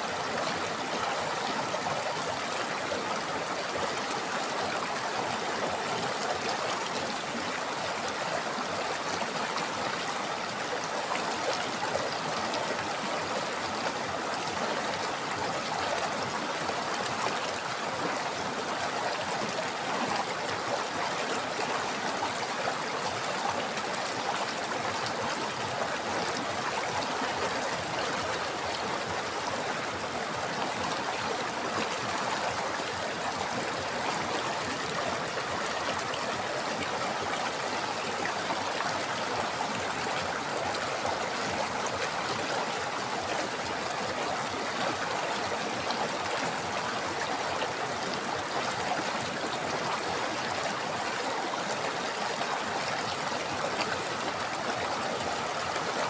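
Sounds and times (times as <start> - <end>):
river water babbling over rocks: 0.0 - 56.0.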